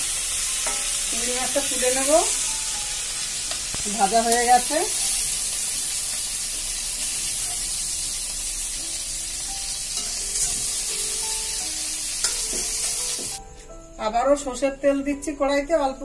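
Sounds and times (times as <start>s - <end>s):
hot oil sizzling: 0.0s - 13.4s.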